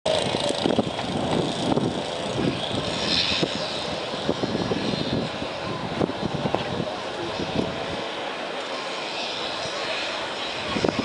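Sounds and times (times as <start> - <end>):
fishing harbour ambience: 0.1 - 11.0.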